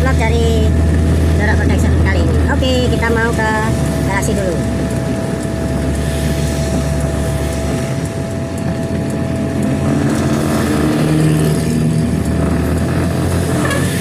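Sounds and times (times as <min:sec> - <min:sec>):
car engine hum: 0:00.0 - 0:14.0
tyres on wet road and rain: 0:00.0 - 0:14.0.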